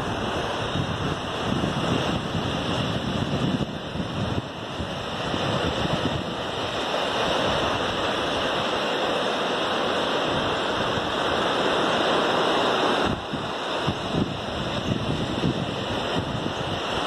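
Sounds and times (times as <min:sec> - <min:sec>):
surf breaking on a beach: 0:00.0 - 0:17.0
wind buffeting microphone: 0:00.0 - 0:17.0.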